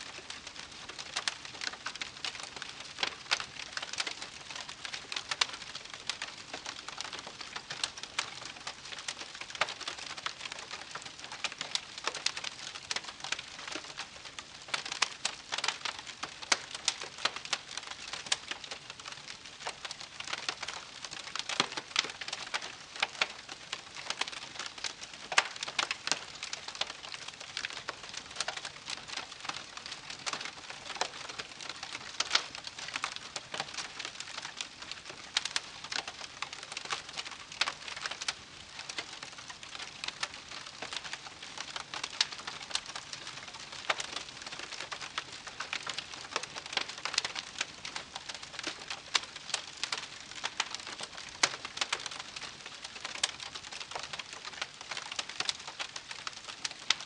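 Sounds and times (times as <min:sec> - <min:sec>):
wood fire crackling and popping: 0:00.1 - 0:57.0.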